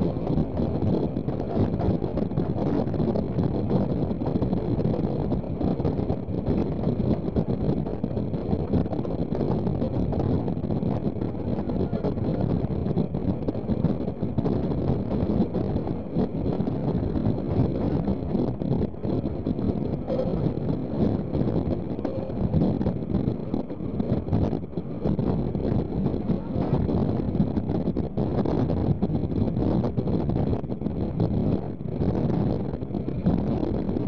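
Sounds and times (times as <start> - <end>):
train wheels rumbling on rails: 0.0 - 34.0
wind buffeting microphone: 0.0 - 34.0.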